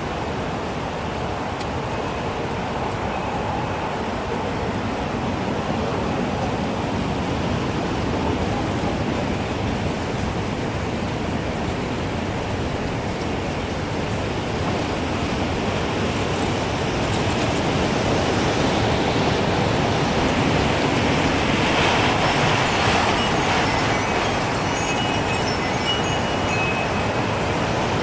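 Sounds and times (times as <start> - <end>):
gusting wind: 0.0 - 28.0.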